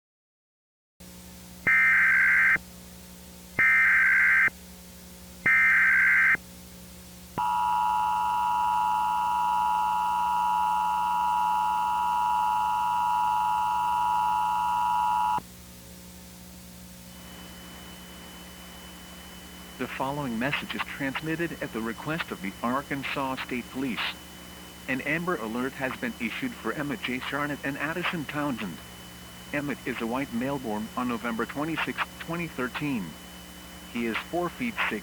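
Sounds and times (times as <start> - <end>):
faint low hum: 1.3 - 35.0.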